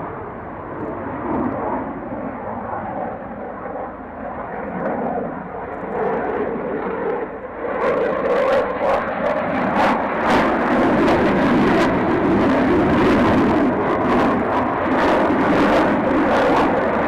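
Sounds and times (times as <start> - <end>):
aircraft engines running: 0.0 - 17.0.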